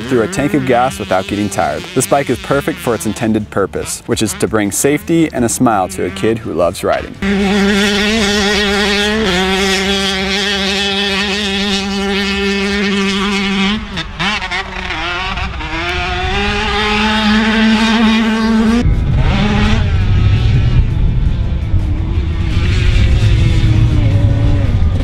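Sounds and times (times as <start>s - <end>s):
two-stroke engine revving high: 0.0s - 25.0s.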